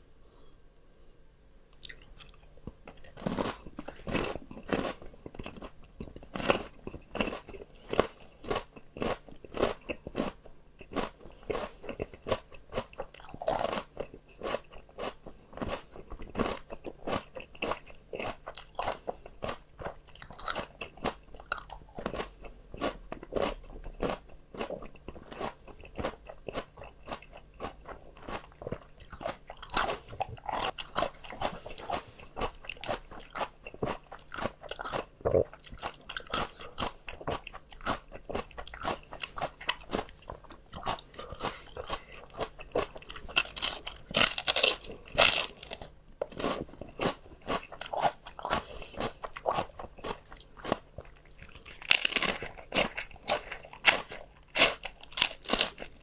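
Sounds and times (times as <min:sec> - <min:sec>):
crunchy chewing of raw vegetables: 0:01.7 - 0:56.0.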